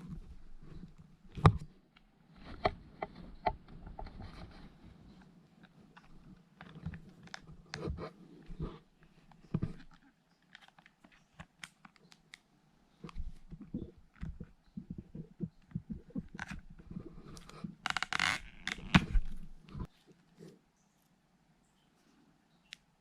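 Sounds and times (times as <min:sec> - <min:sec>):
hands tapping and scraping phone: 0:00.0 - 0:12.3, 0:13.0 - 0:19.9.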